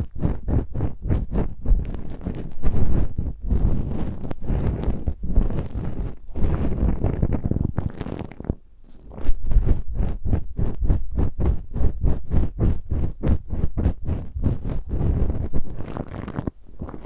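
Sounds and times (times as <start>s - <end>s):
ear pick scratching in ear: 0.0s - 17.0s.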